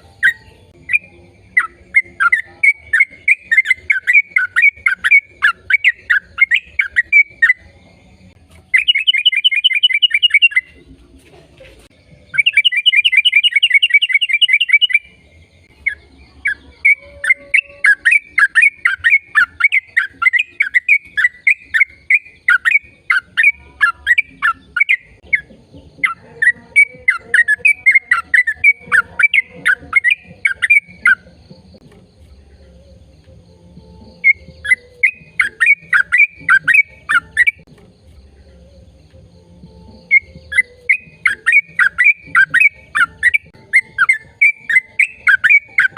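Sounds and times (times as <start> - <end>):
bird chirping and trilling: 0.0 - 10.8, 12.0 - 33.2, 33.8 - 37.7, 39.7 - 45.9.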